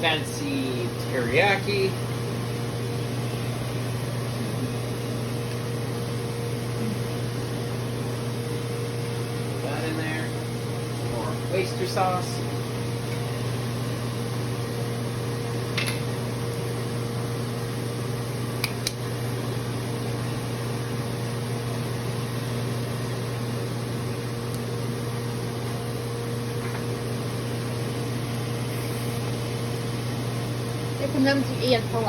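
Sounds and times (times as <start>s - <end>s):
fan motor humming: 0.0s - 32.0s.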